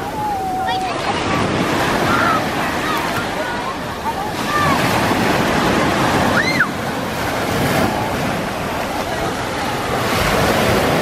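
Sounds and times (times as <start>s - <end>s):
waves breaking on shore: 0.0s - 11.0s.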